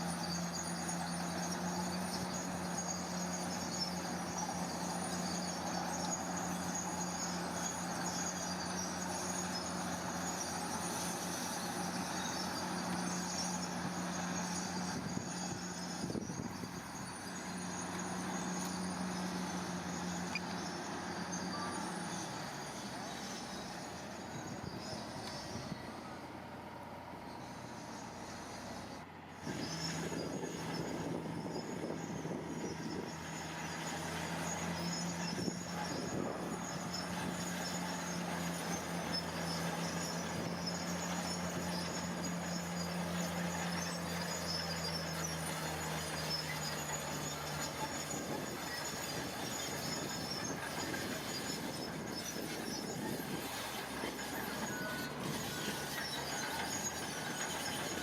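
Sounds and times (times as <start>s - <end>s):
high metallic squealing: 0.0s - 26.3s, 29.4s - 58.0s
heavy machine engine humming: 0.0s - 58.0s.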